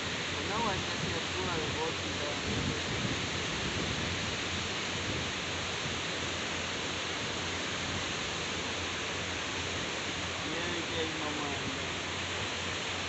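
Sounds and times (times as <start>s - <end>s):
surf washing on shore: 0.0s - 13.0s
wind: 0.0s - 13.0s.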